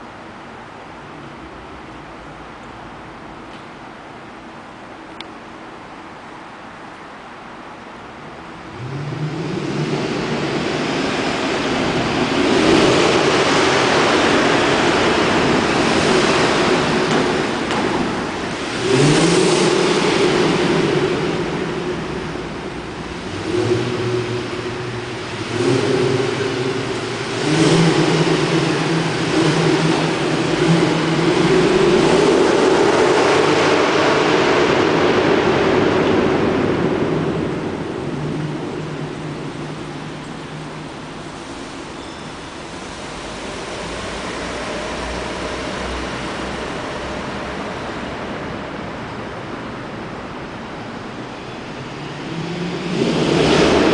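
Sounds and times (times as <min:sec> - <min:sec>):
car engine accelerating hard: 0:08.5 - 0:53.9.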